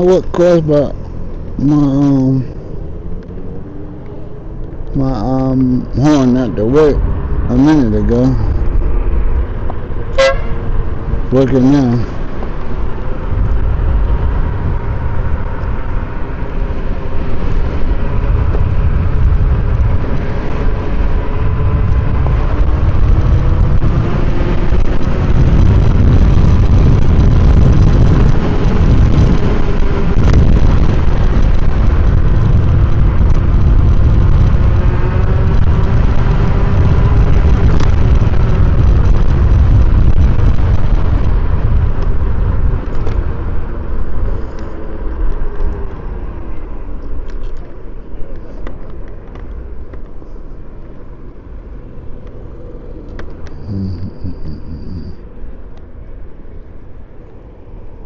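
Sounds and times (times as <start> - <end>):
road rumble: 0.0 - 58.0
wind noise: 0.0 - 58.0.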